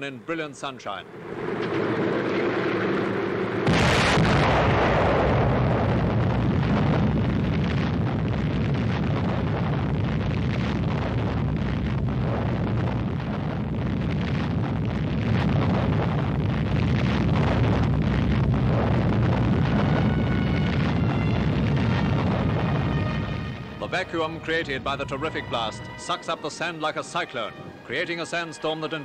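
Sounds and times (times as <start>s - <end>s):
explosion blast with rumble: 1.1s - 28.0s.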